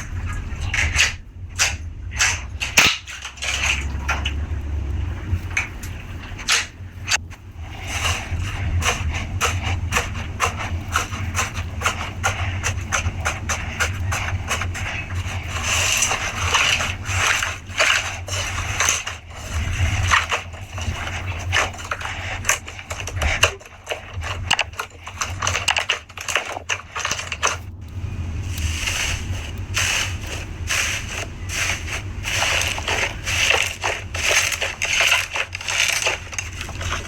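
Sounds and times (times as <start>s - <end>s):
slime squishing: 0.0s - 37.0s.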